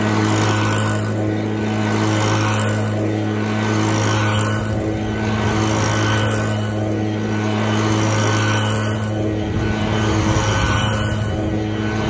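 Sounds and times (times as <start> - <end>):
leaf blower running: 0.0 - 12.0.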